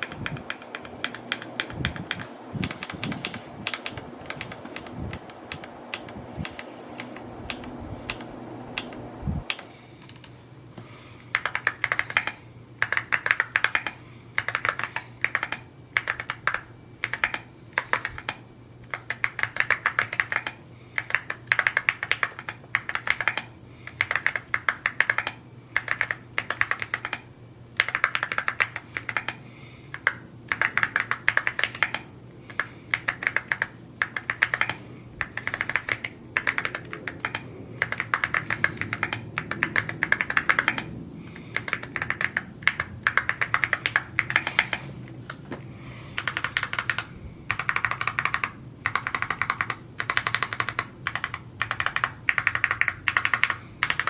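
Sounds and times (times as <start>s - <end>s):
mechanical keyboard typing: 0.0s - 10.3s, 11.3s - 44.9s, 46.2s - 54.0s.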